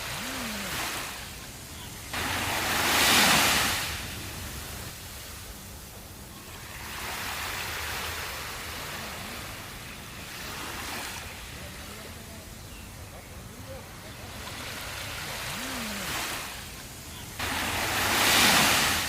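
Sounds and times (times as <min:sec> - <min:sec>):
waves breaking on sand: 0:00.0 - 0:19.0.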